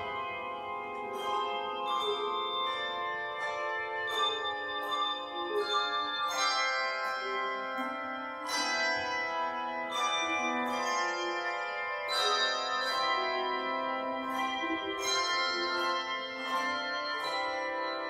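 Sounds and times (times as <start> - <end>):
handbell choir ringing a hymn: 0.0 - 18.0.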